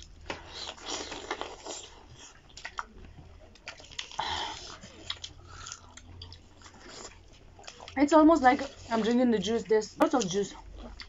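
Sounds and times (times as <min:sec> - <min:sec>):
people chewing meat: 0:00.0 - 0:11.0.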